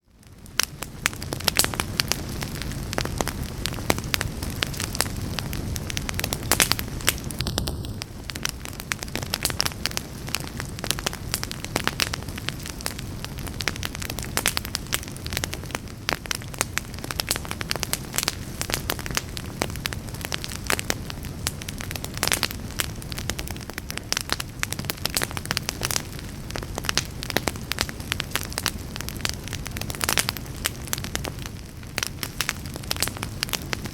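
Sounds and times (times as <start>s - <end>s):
fire crackling and popping: 0.0s - 33.9s
low rush of flame: 0.0s - 33.9s.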